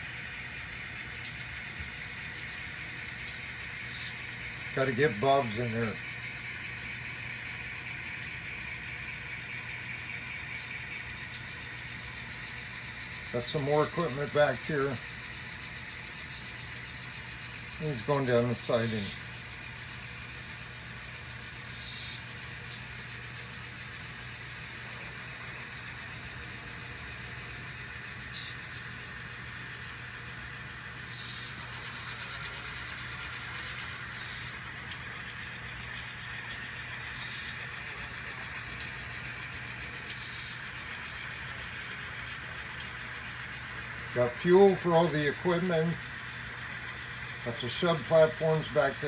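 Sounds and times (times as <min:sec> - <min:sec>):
fast regular ticking: 0:00.0 - 0:49.0
model locomotive engine drone: 0:00.0 - 0:49.0.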